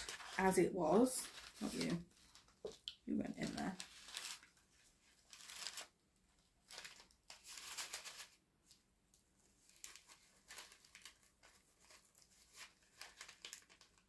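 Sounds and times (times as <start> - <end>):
small bag rustling and crinkling: 0.0 - 8.8, 9.5 - 14.0.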